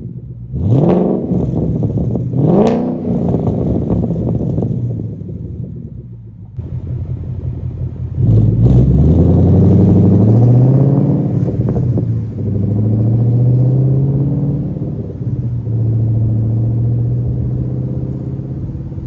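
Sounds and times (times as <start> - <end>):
car engine through loud exhaust: 0.0 - 19.0.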